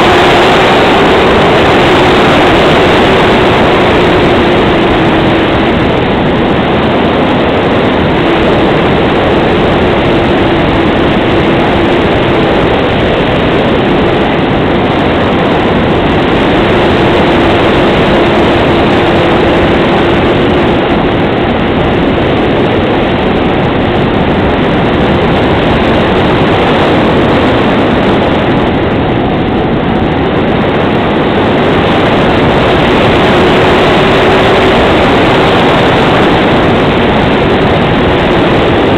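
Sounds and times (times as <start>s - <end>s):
airflow rushing over microphone: 0.0s - 38.9s.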